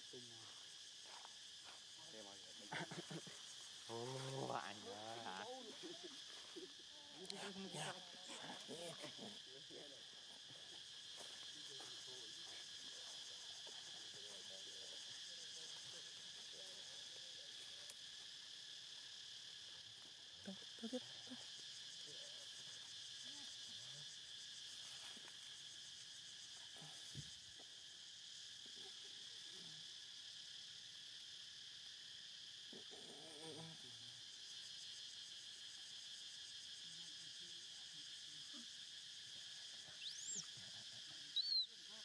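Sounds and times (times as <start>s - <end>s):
insect chorus: 0.0s - 42.0s.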